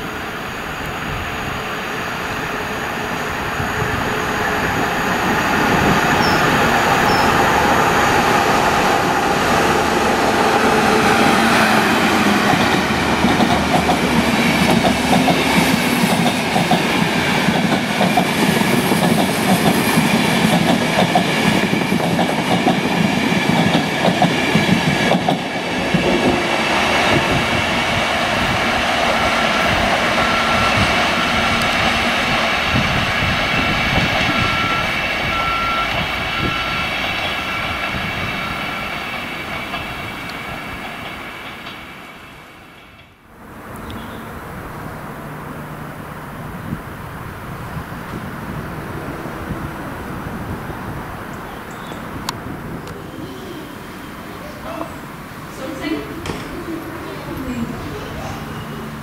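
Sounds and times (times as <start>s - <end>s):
diesel train approaching: 0.0s - 59.0s.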